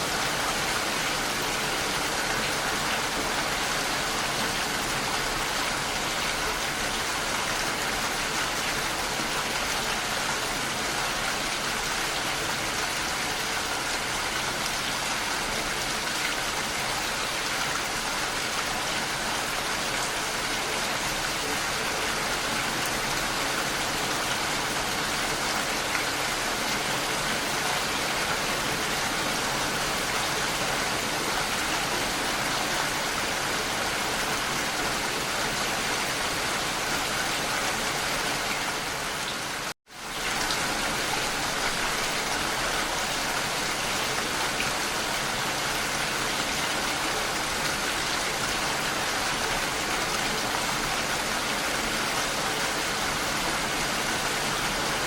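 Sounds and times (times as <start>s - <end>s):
dense rain pattering: 0.0s - 55.0s.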